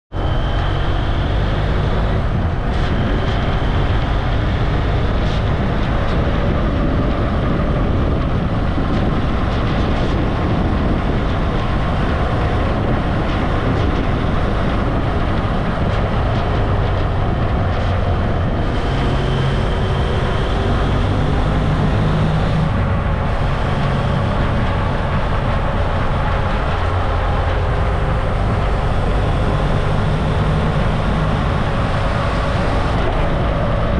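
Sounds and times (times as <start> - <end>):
wind noise: 0.1 - 33.9
motorcycle engine running: 0.2 - 33.9.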